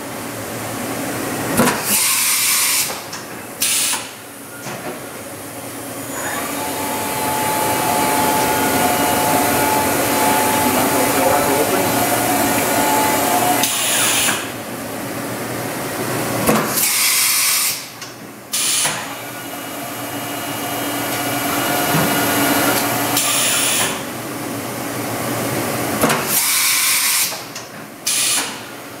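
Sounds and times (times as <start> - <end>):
machining center whir and hiss: 0.0 - 29.0.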